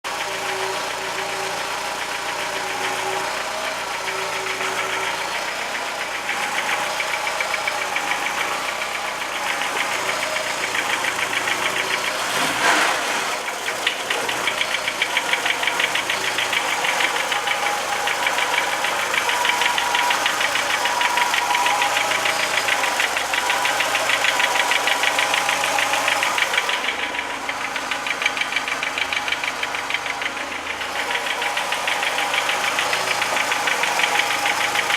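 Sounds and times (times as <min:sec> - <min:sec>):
car engine knocking: 0:00.0 - 0:34.9.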